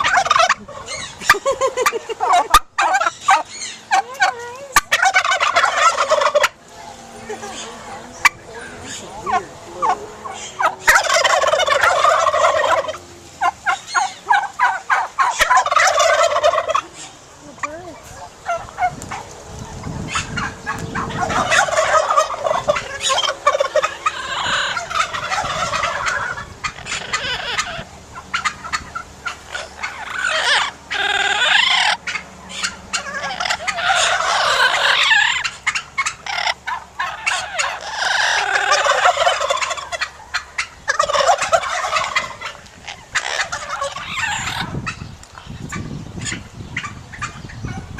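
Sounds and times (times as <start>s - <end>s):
turkeys gobbling: 0.0s - 47.9s.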